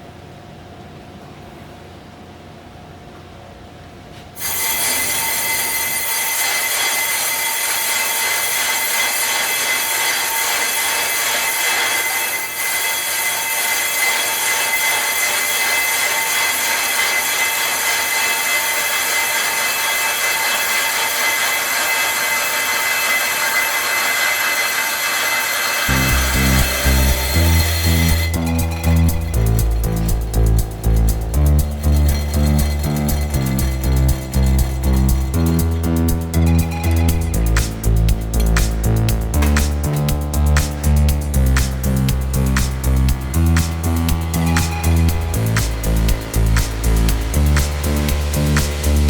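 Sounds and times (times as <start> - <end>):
shrill metallic cutting screech: 4.4 - 49.0.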